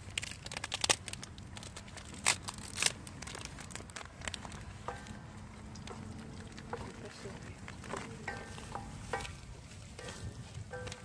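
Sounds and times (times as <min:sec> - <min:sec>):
ingredients crinkling and crackling: 0:00.0 - 0:11.0.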